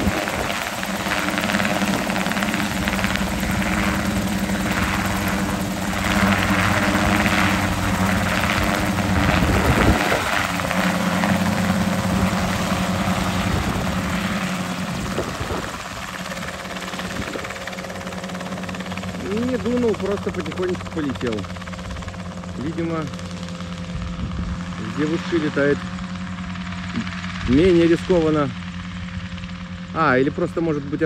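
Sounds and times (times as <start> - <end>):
helicopter hovering: 0.0 - 31.0.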